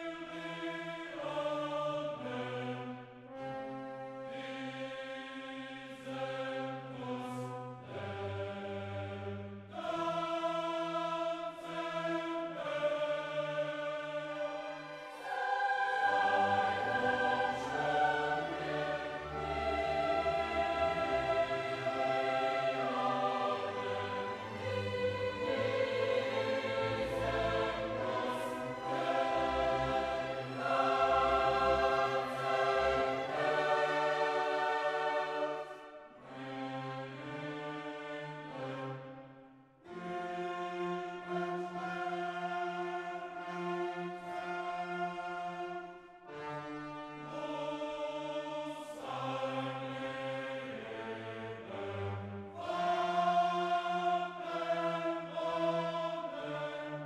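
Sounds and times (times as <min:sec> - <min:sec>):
slow choir-like chords: 0:00.0 - 0:57.0.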